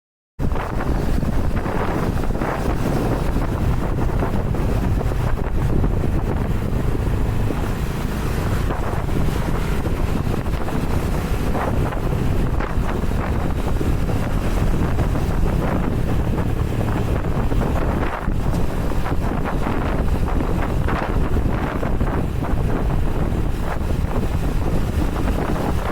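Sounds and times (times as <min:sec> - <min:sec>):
motorcycle engine drone: 0:00.4 - 0:25.9
wind rushing over microphone: 0:00.4 - 0:25.9.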